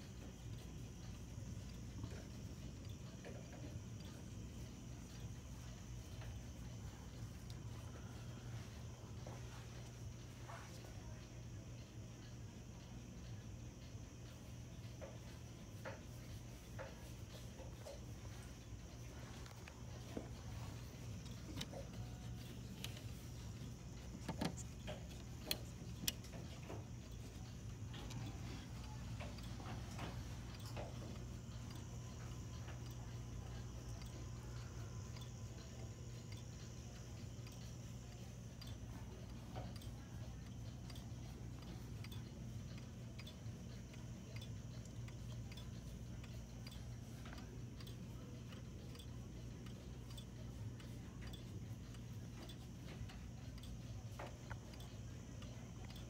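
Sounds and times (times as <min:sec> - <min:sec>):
low steady hum: 0:00.0 - 0:56.0
pendulum clock ticking: 0:00.0 - 0:56.0
sharp clock clicks: 0:00.0 - 0:56.0.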